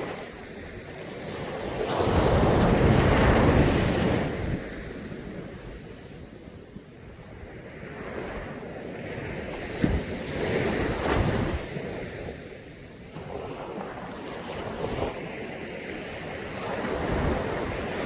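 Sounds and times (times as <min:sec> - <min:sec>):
wind buffeting microphone: 0:00.0 - 0:12.4, 0:16.0 - 0:18.0
sea surf washing on beach: 0:00.0 - 0:18.0.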